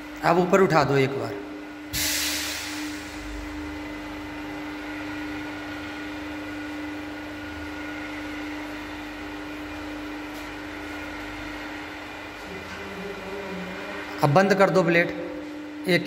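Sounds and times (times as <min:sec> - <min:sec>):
mixer motor humming: 0:01.4 - 0:16.0.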